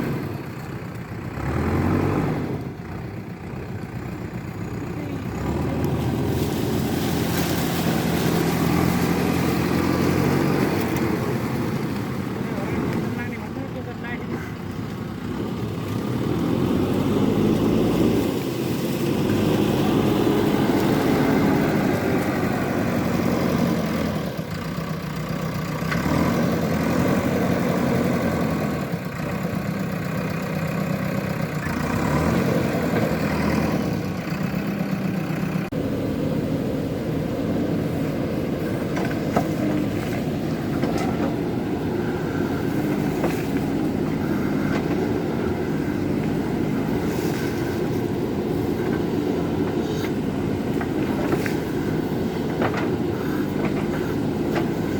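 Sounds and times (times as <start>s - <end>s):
excavator diesel engine working: 0.0s - 54.9s.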